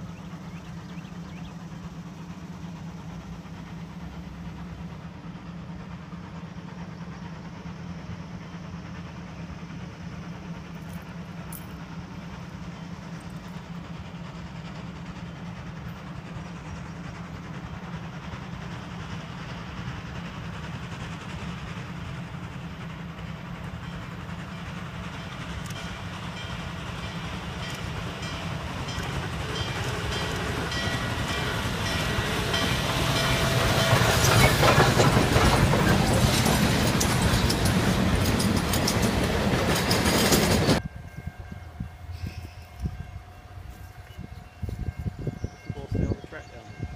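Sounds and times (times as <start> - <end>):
steam locomotive approaching: 0.0 - 46.9.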